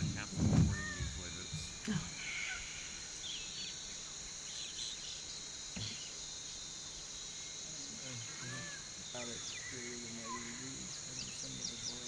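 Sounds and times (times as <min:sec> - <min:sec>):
insects buzzing: 0:00.0 - 0:12.0
faint bird chirps: 0:00.7 - 0:12.0.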